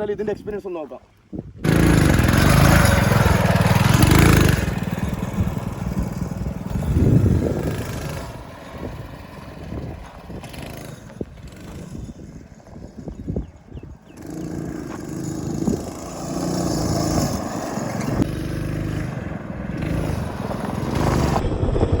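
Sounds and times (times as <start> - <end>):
buggy engine revving: 1.6 - 21.4.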